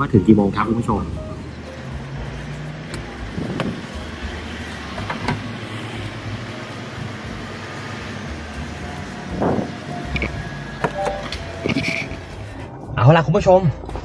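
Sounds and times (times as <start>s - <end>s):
motor vehicles humming: 0.0s - 13.0s.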